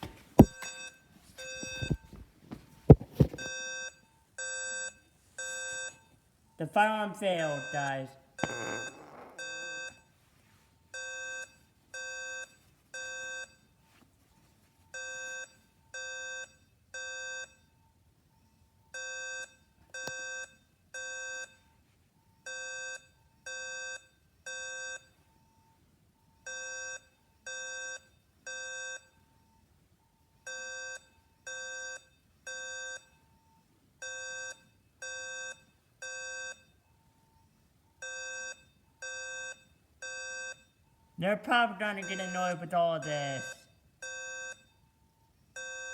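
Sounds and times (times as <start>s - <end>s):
fire alarm beeping: 0.0s - 2.0s, 2.9s - 10.3s, 10.9s - 13.8s, 14.9s - 45.9s.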